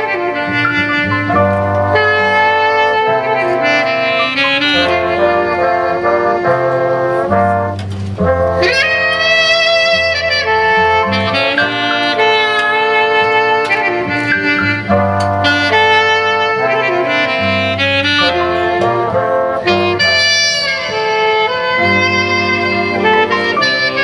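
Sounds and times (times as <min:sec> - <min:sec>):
saxophone and brass chords: 0:00.0 - 0:24.0
upright bass line: 0:00.0 - 0:24.0.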